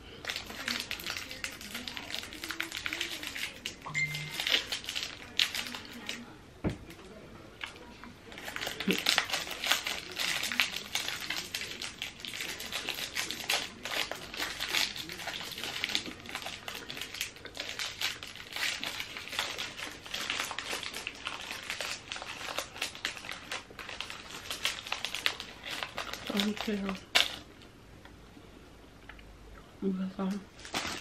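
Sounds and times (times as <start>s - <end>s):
wrapper crinkling: 0.2s - 6.3s, 7.7s - 27.5s, 30.6s - 31.0s.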